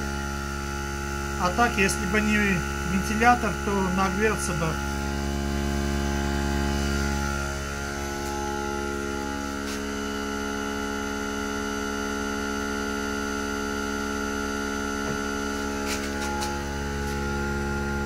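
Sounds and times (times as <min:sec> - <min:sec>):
air compressor pump humming: 0:00.0 - 0:18.0.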